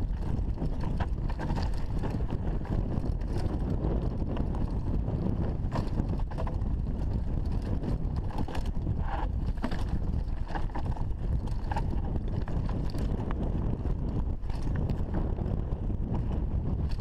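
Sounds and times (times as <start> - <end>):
tyres crunching over stones: 0.0 - 15.2
bike rattling and clicking: 0.0 - 17.0
wind on microphone: 0.0 - 17.0.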